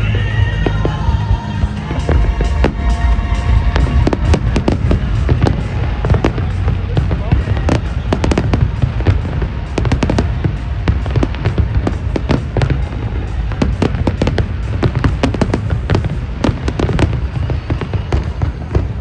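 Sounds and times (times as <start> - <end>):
steady low rumble: 0.0 - 18.1
fireworks bangs and crackles: 0.0 - 19.0.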